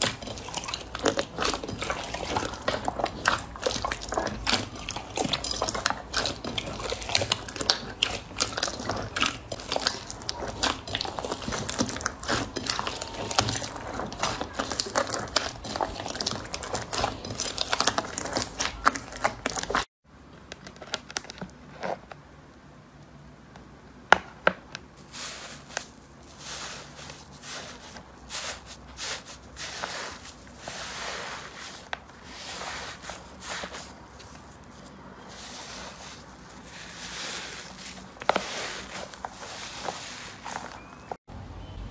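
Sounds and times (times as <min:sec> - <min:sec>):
slime squelching: 0:00.0 - 0:19.9, 0:25.0 - 0:41.2.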